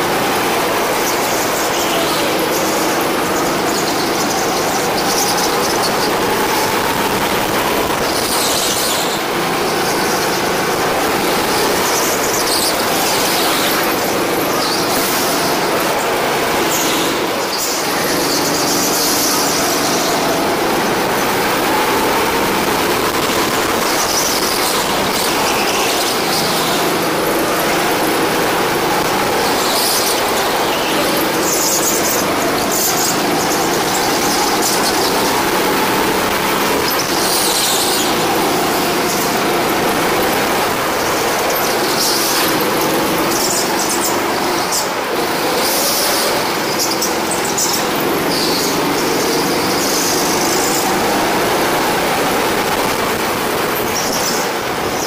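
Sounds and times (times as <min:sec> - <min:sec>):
go-kart engine revving: 0:00.0 - 0:55.0
tyres squealing: 0:00.0 - 0:55.0.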